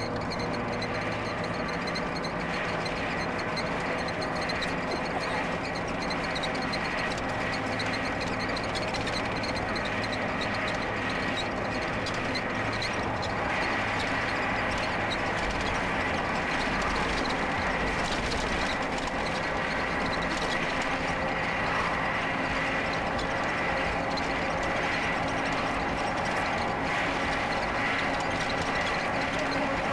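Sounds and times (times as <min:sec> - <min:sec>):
vehicle engine and road noise: 0:00.0 - 0:29.9.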